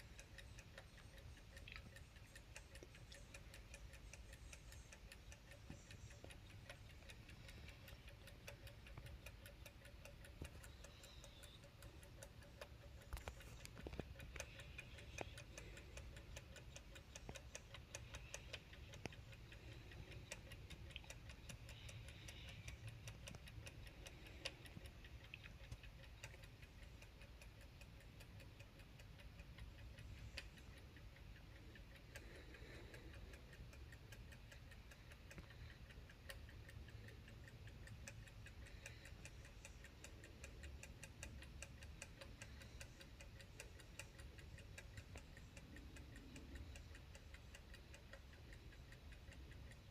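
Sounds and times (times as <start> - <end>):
wall clock ticking: 0.0 - 49.9.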